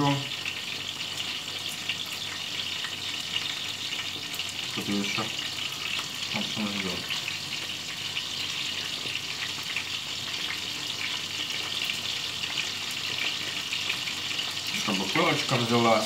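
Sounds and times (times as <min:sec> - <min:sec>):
dumplings sizzling in oil: 0:00.0 - 0:16.0.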